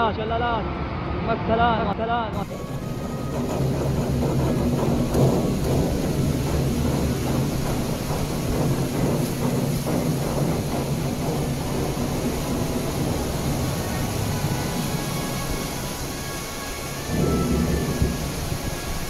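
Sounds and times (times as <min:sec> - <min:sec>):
floodwater rushing: 0:02.4 - 0:19.0.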